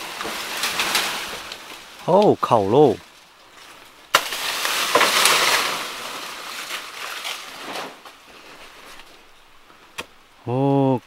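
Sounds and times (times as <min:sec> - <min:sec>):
leaves and brush rustling: 0:00.0 - 0:11.0.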